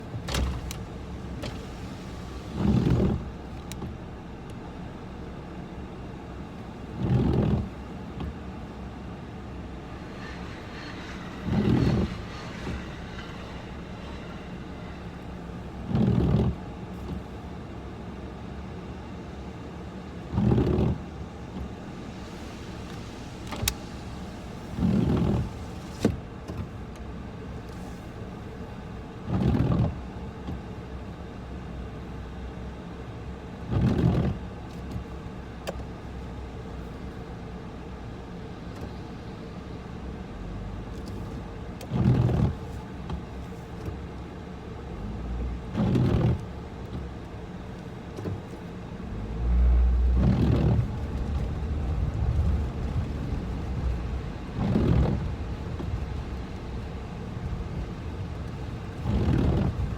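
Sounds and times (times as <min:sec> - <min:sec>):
car engine idling: 0:00.0 - 0:29.2, 0:35.1 - 0:59.9.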